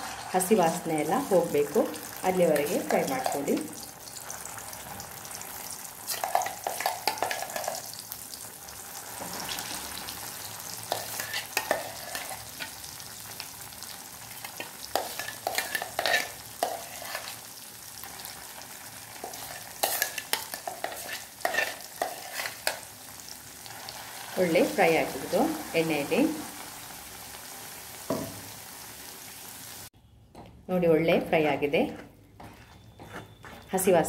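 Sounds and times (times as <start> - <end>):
paste sizzling in hot oil: 0.0 - 29.9.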